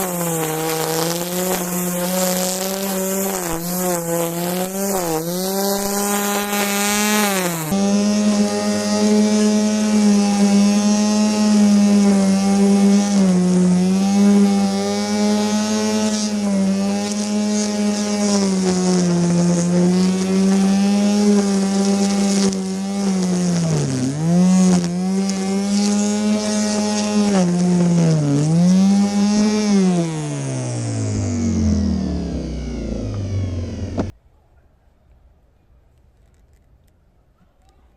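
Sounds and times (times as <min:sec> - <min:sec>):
electric grass trimmer whine: 0:00.0 - 0:34.1.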